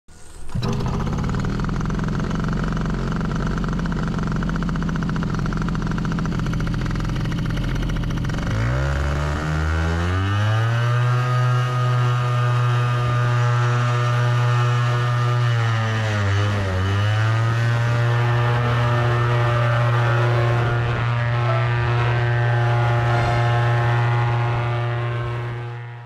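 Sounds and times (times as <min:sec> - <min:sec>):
paramotor engine revving up: 0:00.1 - 0:26.0.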